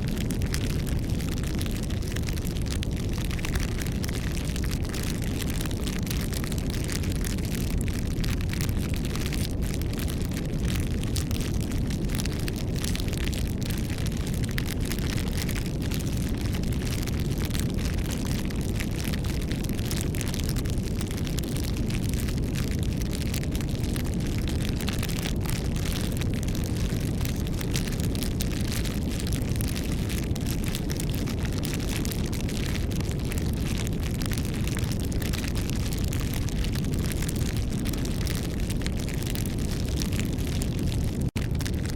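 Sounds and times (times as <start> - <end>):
bonfire crackling: 0.0 - 41.9.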